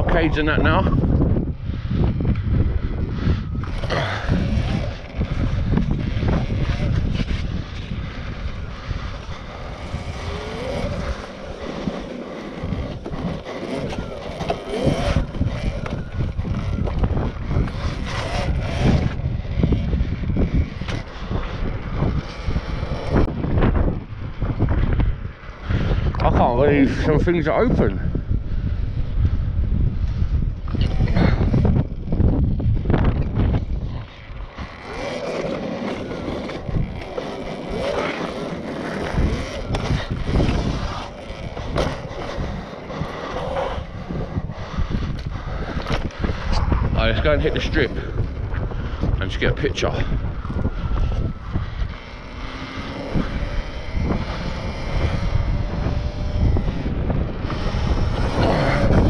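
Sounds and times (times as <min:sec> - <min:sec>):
electric motor whine: 0:00.0 - 0:26.3, 0:27.8 - 0:59.0
wind buffeting microphone: 0:00.0 - 0:59.0.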